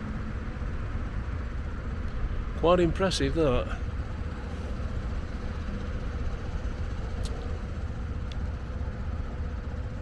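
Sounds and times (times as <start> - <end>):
diesel engine rumbling: 0.0 - 10.0
faint steady hum: 0.0 - 10.0.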